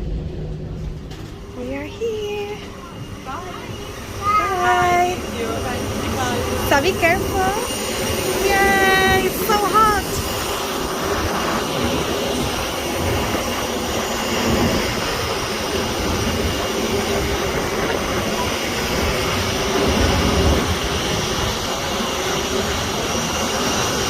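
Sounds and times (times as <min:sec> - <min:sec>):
jet aircraft engines humming: 0:00.0 - 0:24.0.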